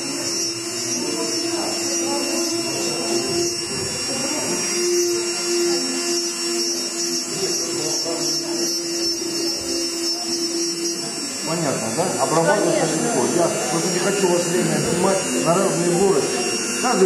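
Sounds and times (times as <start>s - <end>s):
rotary engraving tool humming: 0.0s - 17.0s.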